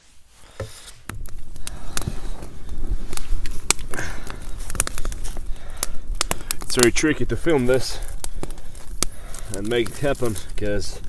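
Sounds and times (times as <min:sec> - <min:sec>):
dry grass crackling as it burns: 0:00.0 - 0:11.0.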